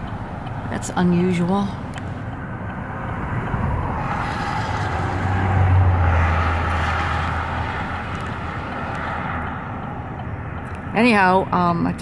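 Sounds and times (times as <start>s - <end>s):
vehicle passing by: 0.0s - 11.4s.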